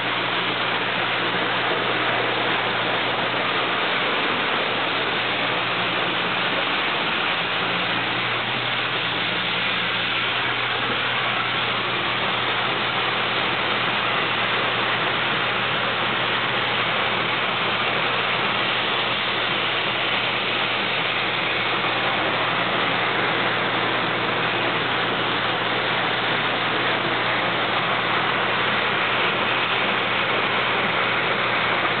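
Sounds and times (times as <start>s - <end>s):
low electric motor hum: 0.0s - 32.0s.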